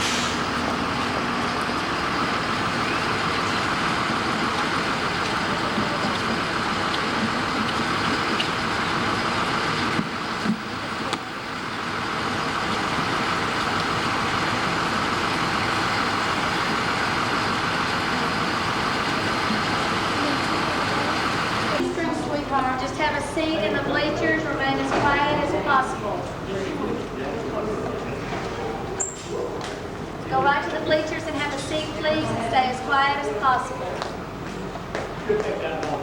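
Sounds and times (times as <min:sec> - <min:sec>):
vehicle engine running: 0:00.0 - 0:27.1, 0:29.8 - 0:36.0.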